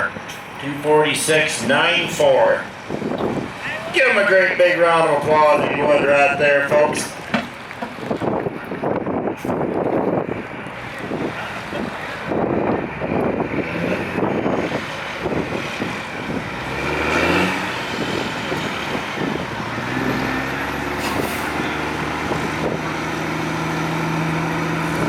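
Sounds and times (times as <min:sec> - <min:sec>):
truck engine rumbling and revving: 0:00.0 - 0:25.0.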